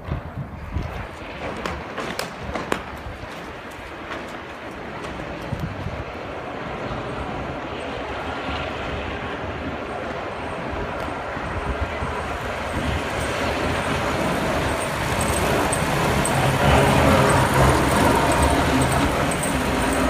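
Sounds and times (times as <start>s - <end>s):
passing vehicle engine and tyres: 0.0s - 20.0s.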